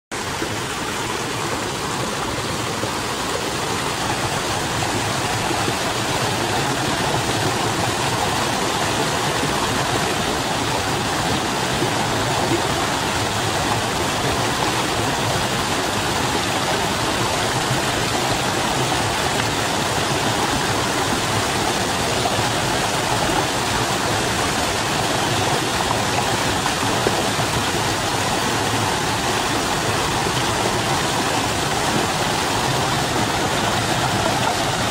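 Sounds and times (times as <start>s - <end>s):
stream running over rocks: 0.1s - 34.9s.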